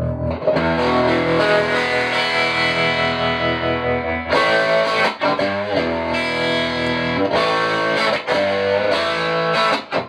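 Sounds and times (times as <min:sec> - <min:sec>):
electric guitar chords: 0:00.0 - 0:10.0.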